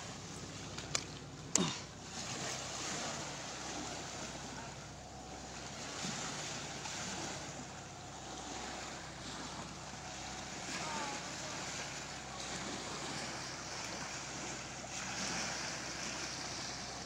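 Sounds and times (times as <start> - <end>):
sea water washing against boats: 0.0 - 17.0.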